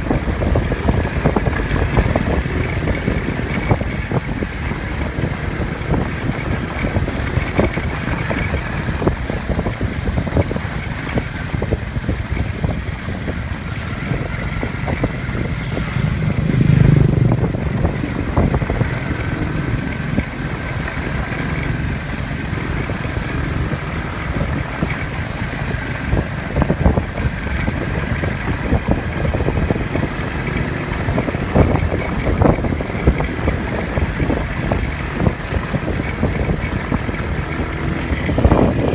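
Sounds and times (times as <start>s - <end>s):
off-road vehicle engine running: 0.0s - 38.9s
vehicle knocks and rattles: 0.0s - 38.9s.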